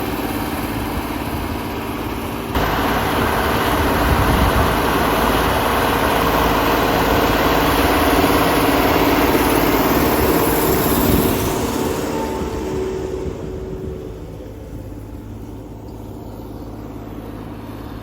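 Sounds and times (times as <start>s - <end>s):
tractor diesel engine droning: 0.0s - 18.0s.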